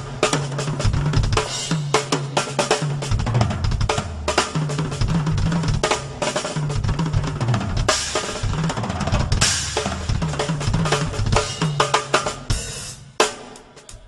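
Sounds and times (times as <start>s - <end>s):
fast drum strokes: 0.0s - 14.0s.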